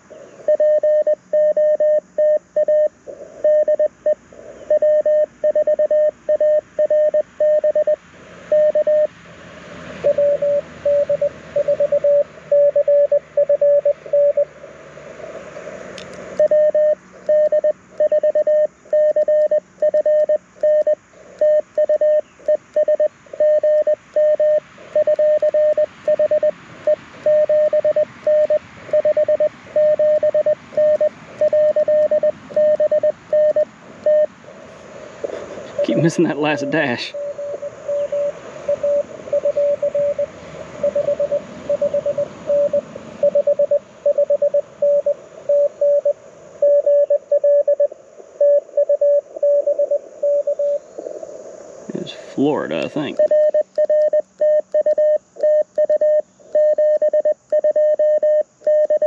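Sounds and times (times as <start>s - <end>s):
receiver hiss: 0.0s - 59.0s
morse code tone through speaker: 0.5s - 9.1s, 10.0s - 14.5s, 16.4s - 26.5s, 27.2s - 34.3s, 35.7s - 50.8s, 52.4s - 59.0s.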